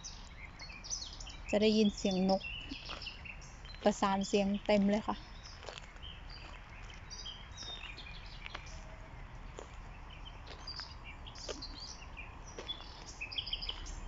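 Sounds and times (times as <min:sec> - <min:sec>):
chorus of birds singing: 0:00.0 - 0:14.0.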